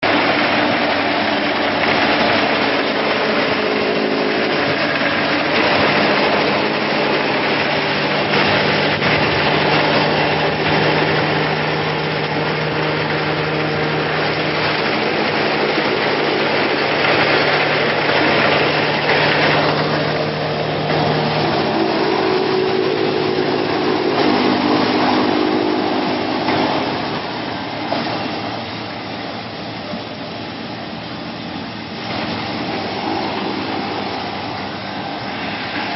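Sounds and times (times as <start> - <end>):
baler mechanical drone: 0.0 - 35.9.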